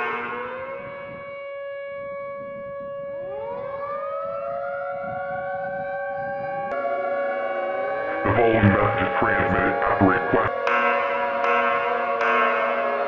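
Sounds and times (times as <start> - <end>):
warning sirens wailing: 0.0 - 13.0.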